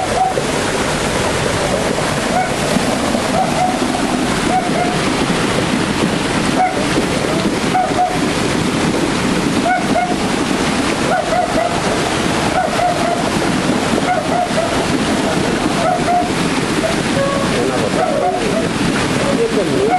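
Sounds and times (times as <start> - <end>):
stream flowing over stones: 0.0 - 19.9.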